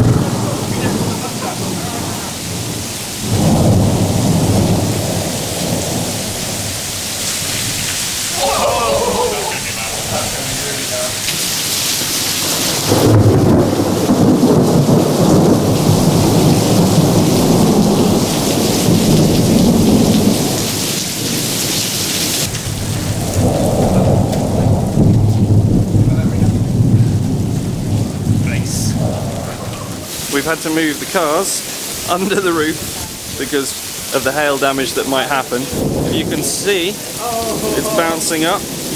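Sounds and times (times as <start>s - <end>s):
heavy rain hiss: 0.0s - 38.9s
thunder rumbling: 0.0s - 38.9s.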